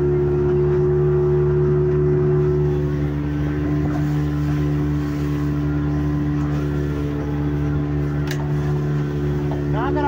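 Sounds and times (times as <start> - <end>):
motorboat engine running: 0.0 - 10.0.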